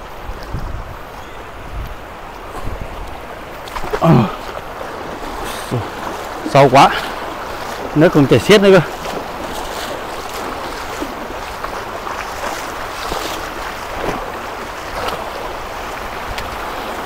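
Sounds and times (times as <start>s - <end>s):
floodwater rushing: 0.0s - 17.0s
faint splashes: 2.4s - 17.0s.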